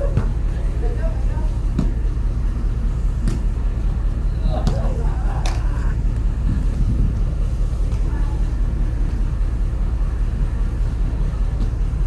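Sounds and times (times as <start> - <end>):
ship low rumble: 0.0 - 12.0.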